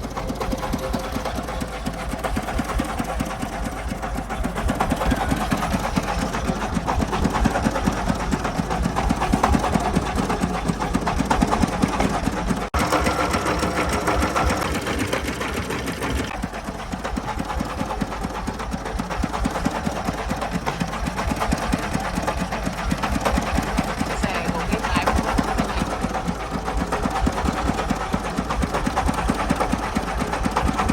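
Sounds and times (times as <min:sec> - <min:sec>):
diesel engine chugging: 0:00.0 - 0:30.9.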